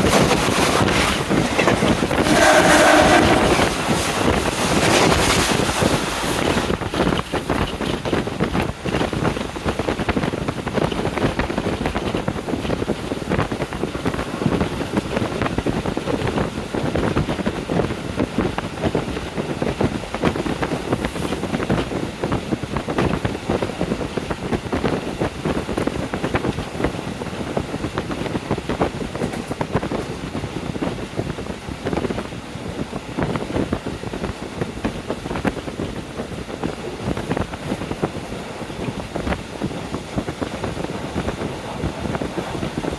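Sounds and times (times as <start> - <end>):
train running on rails: 0.0 - 42.9
wind buffeting through open window: 0.0 - 42.9.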